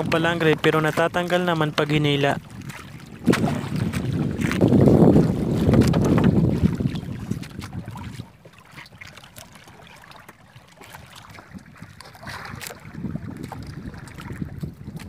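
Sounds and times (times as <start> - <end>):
wind buffeting microphone: 0.0 - 9.2, 11.0 - 15.0.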